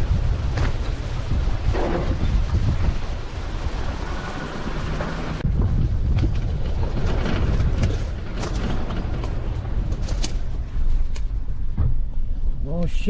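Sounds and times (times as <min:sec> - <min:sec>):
knocks and rattles over bumps: 0:00.0 - 0:12.6
vehicle rumble on dirt track: 0:00.0 - 0:12.6.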